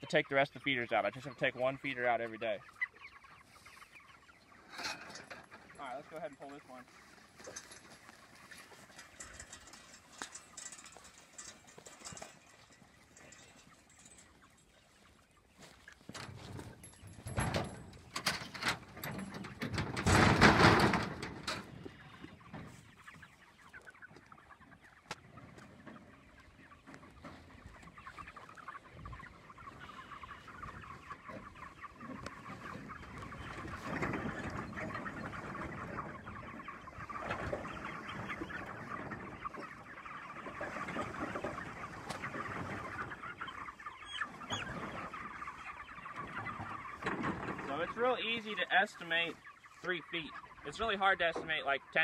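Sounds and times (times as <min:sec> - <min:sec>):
chickens cheeping and clucking: 0:00.0 - 0:52.0.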